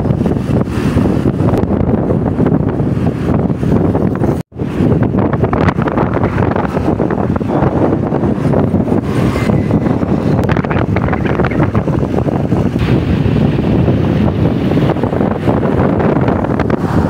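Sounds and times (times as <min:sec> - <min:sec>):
vehicle road and engine noise: 0:00.0 - 0:17.0
wind buffeting microphone: 0:00.0 - 0:17.0.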